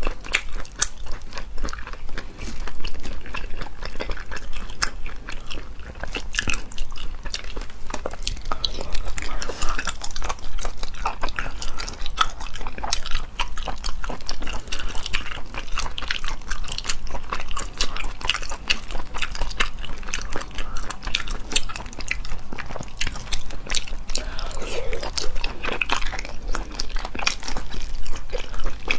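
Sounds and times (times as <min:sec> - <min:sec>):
wet chewing and biting: 0:00.0 - 0:28.9.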